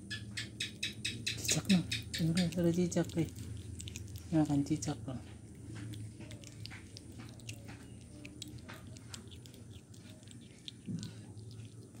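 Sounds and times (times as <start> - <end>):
low steady hum: 0.0 - 12.0
kitten chewing fish: 0.1 - 12.0.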